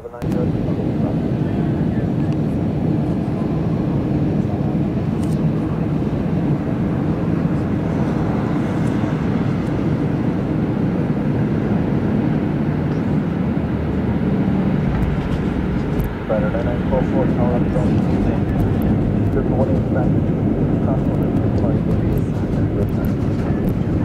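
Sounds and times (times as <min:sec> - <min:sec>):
airliner cabin engine noise: 0:00.0 - 0:24.0.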